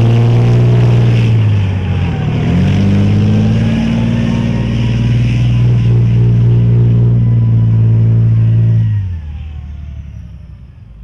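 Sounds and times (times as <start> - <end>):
tank diesel engine droning: 0.0 - 11.0.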